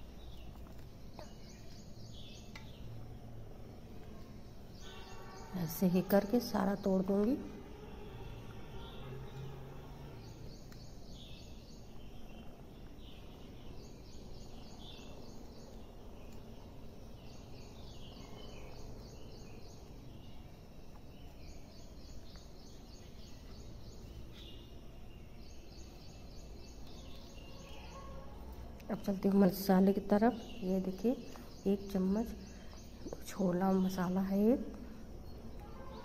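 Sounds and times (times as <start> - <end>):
low background hum: 0.0 - 36.0.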